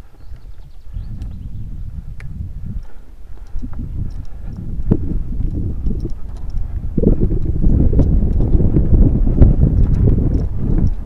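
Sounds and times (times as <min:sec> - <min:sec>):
mountain bike rumbling on trail: 0:00.0 - 0:11.0
wind buffeting microphone: 0:00.0 - 0:11.0.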